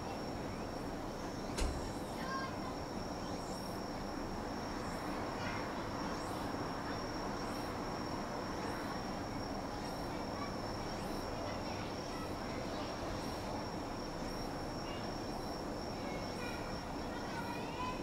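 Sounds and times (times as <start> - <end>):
insects buzzing and chirping: 0.0 - 18.0.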